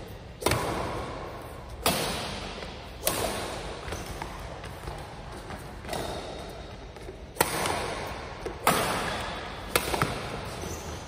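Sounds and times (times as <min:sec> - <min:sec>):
rackets striking shuttlecock: 0:00.3 - 0:11.0.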